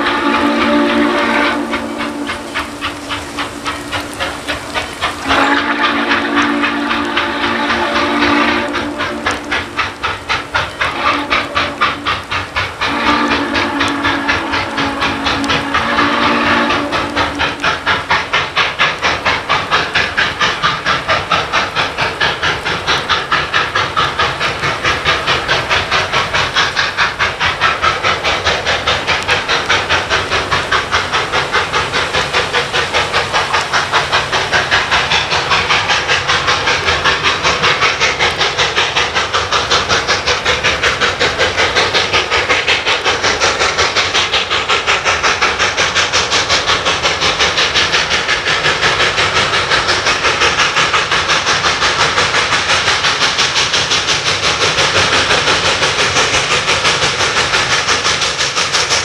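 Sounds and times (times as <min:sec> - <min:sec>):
steam hissing: 0:00.0 - 0:59.0
steam locomotive exhaust chuffs: 0:00.0 - 0:59.0.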